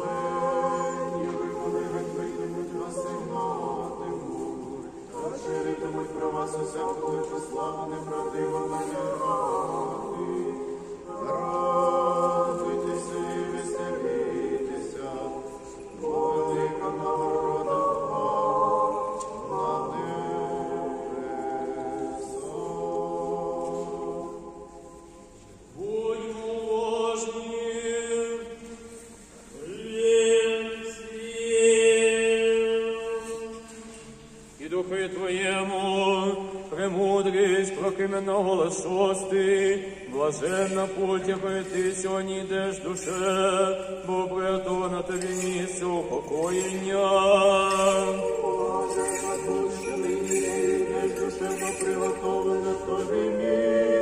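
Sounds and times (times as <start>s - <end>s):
choir singing unaccompanied chant: 0.0s - 25.2s, 25.8s - 28.8s, 34.6s - 54.0s.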